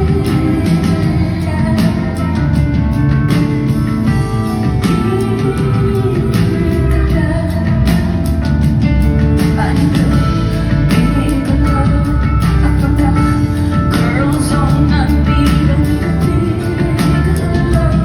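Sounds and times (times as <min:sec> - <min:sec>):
live rock band music: 0:00.0 - 0:18.0
woman singing: 0:00.0 - 0:18.0.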